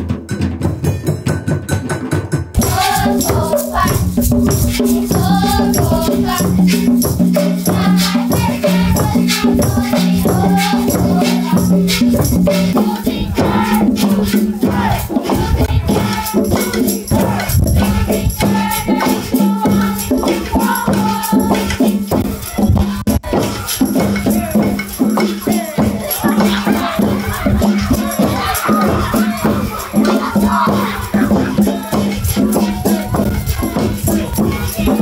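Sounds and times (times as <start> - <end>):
hand drums: 0.0 - 35.0
shaken rattles: 2.6 - 22.8, 23.4 - 35.0
children singing: 2.6 - 35.0.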